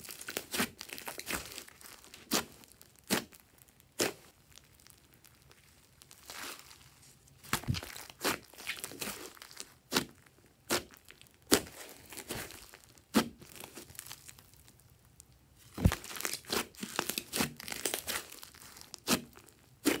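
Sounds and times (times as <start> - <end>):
slime popping and crackling: 0.0 - 20.0.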